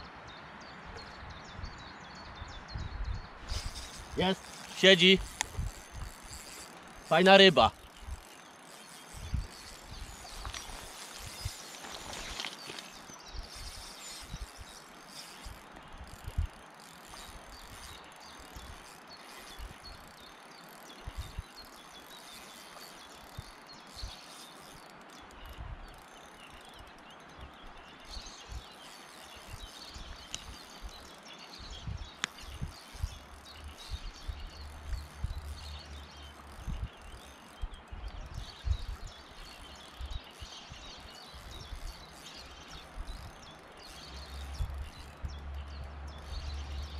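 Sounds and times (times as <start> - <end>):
outdoor ambience: 0.0 - 46.9
fishing reel ticking whirr: 3.4 - 46.9.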